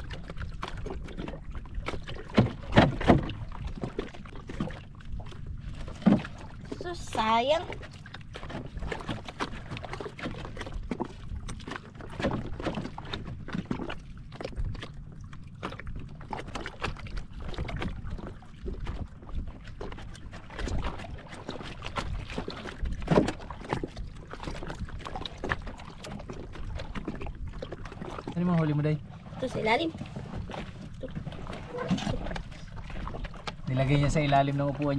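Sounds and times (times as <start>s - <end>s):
waves lapping against wooden hull: 0.0s - 34.9s.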